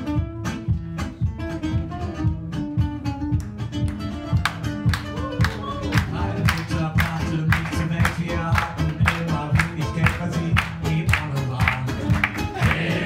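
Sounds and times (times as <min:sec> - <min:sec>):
picked acoustic guitar melody: 0:00.0 - 0:13.0
strummed acoustic guitar rhythm: 0:00.0 - 0:13.0.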